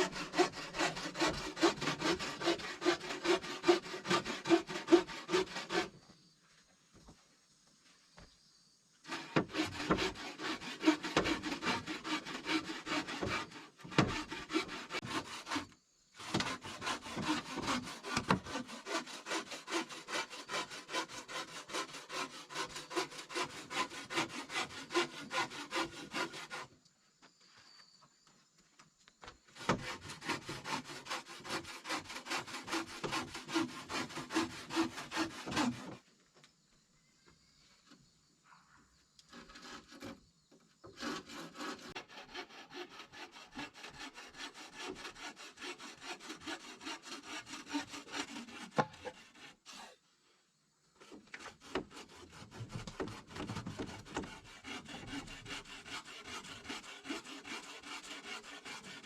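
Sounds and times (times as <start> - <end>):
hand saw cutting wood: 0.0 - 6.0, 9.0 - 26.8, 29.5 - 36.0, 39.2 - 40.2, 40.8 - 50.0, 51.0 - 59.0.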